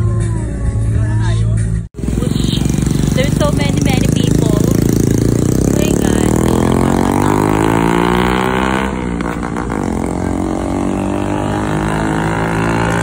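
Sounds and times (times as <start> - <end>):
vehicle engine revving: 2.0 - 13.0.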